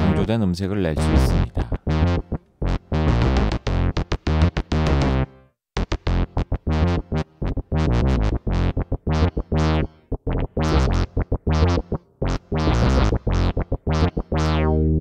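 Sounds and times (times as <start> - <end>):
synth bass line: 0.0 - 0.3, 1.0 - 15.0.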